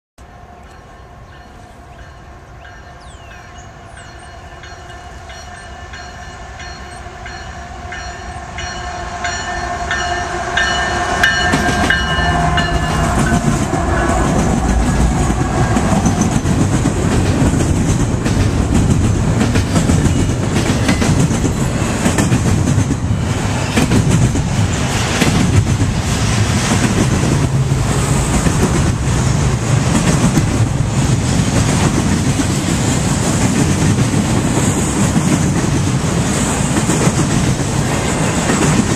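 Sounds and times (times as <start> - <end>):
train cars rumbling and clacking: 0.2 - 38.9.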